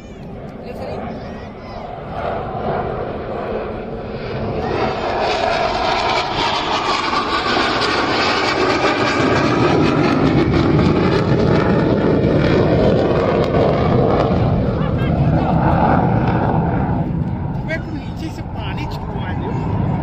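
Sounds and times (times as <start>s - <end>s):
military aircraft flying overhead: 0.0s - 20.0s.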